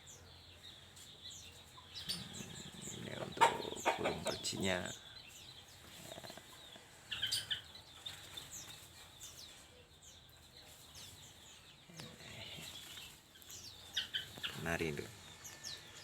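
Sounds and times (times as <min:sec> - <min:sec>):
small birds chirping and squawking: 0:00.0 - 0:16.0.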